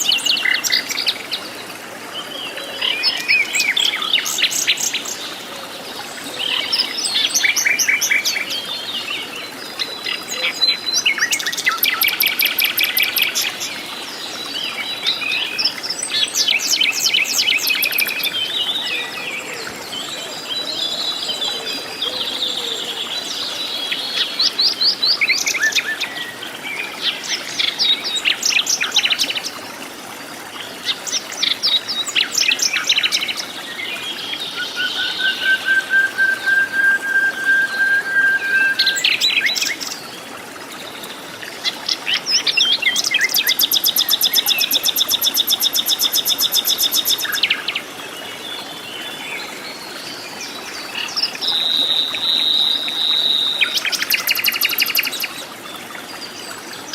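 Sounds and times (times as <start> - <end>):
forest birds chirping and trilling: 0.0 - 29.6, 30.5 - 56.9.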